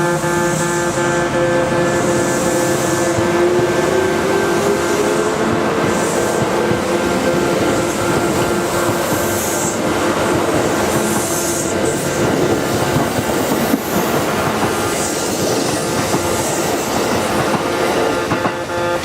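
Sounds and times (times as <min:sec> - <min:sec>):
high wheel squeal: 0:00.0 - 0:19.0
train wheels rolling on track: 0:00.0 - 0:19.0.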